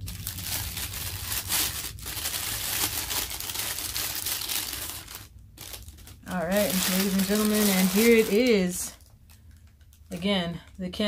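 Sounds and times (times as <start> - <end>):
sharp plastic crackles: 0.0 - 10.8
plastic wrapping crinkling: 0.0 - 11.0.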